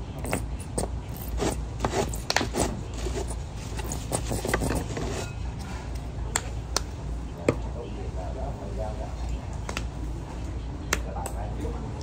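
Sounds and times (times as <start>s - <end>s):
low restaurant hum: 0.0s - 12.0s.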